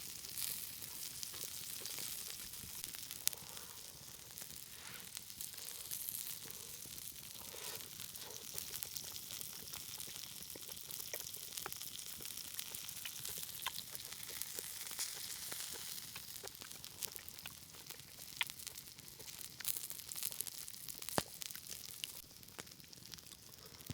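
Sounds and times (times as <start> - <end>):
campfire crackling: 0.0 - 23.9
meat sizzling on hot stone: 0.0 - 23.9.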